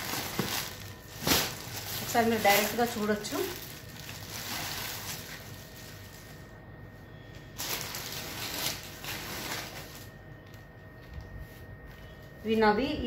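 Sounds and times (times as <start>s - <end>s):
plastic wrapping crinkling: 0.0s - 6.6s, 7.3s - 12.4s.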